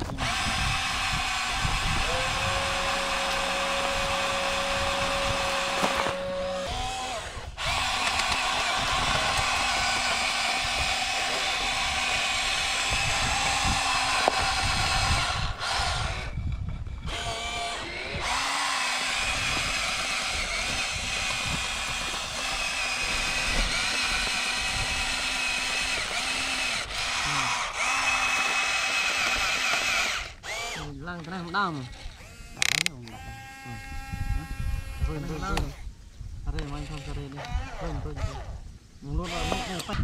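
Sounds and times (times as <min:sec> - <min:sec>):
small electric motors whining: 0:00.0 - 0:40.0.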